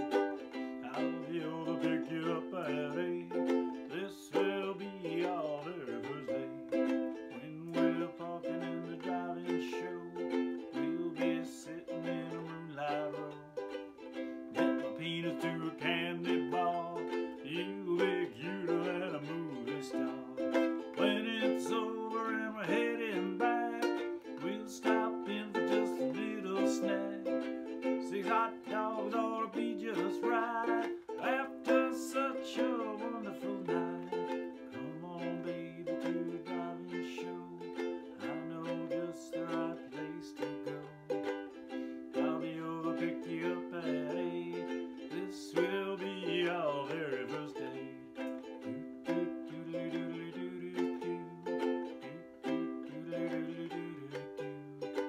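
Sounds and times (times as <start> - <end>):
man singing: 0.0 - 55.0
strummed ukulele: 0.0 - 55.0.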